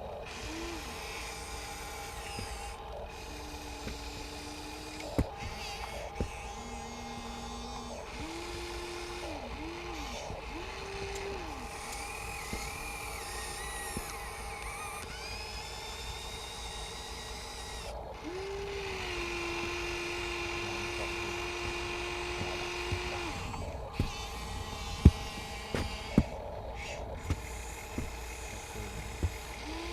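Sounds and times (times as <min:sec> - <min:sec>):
constant low hum: 0:00.0 - 0:29.9
small electric motors whining: 0:00.0 - 0:29.9.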